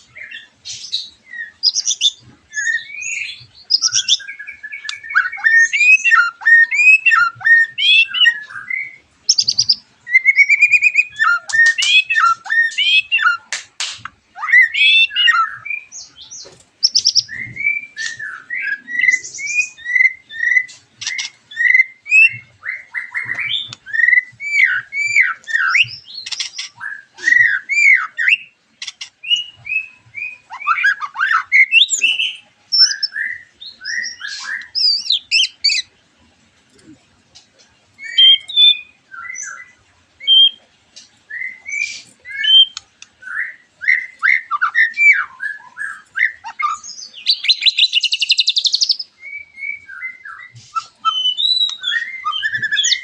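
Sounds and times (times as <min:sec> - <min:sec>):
birds singing whistled phrases: 0:00.0 - 0:36.0, 0:36.8 - 0:53.0.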